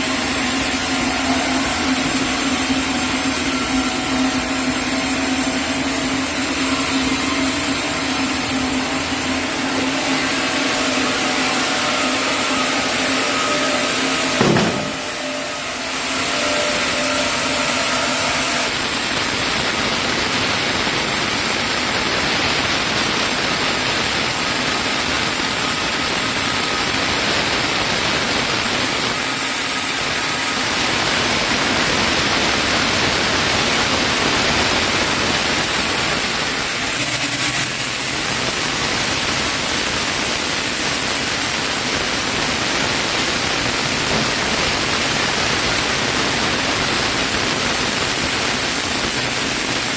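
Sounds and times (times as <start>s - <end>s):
sawmill machinery humming: 0.0s - 49.9s.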